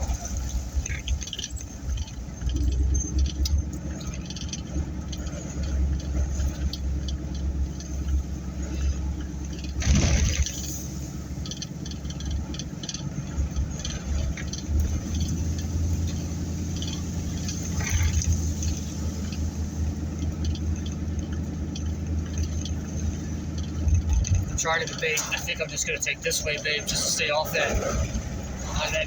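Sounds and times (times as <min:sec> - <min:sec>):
engine and tyres rumbling: 0:00.0 - 0:29.0
light ticks and rattles: 0:00.0 - 0:29.0.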